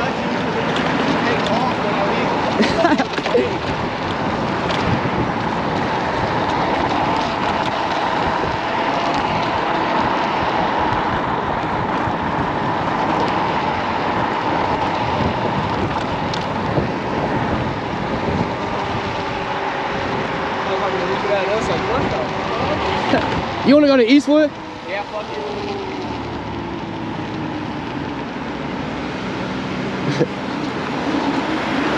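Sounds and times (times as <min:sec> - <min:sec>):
electric scooter running: 0:00.0 - 0:31.9
wind rushing over microphone: 0:00.0 - 0:31.9.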